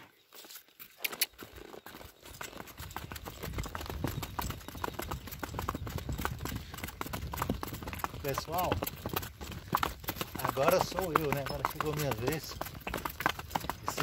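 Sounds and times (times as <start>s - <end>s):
horse hooves clip-clopping on dirt: 0.0s - 14.0s.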